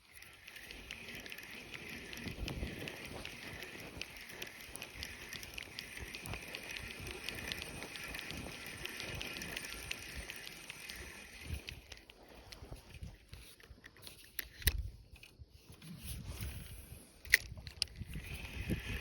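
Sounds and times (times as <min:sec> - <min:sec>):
fishing reel whirring: 0:00.0 - 0:13.6, 0:17.2 - 0:19.0.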